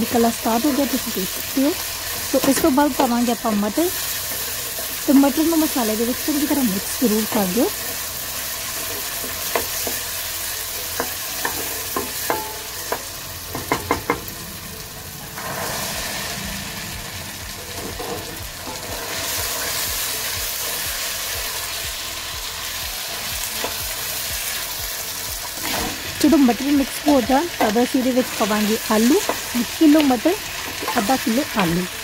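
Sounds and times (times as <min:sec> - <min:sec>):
masala sizzling in a pan: 0:00.0 - 0:32.0.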